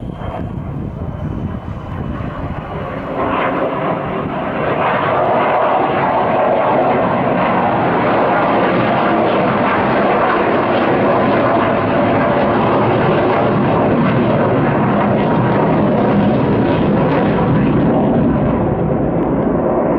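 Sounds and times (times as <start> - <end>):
fighter jet roaring overhead: 0.0 - 19.9.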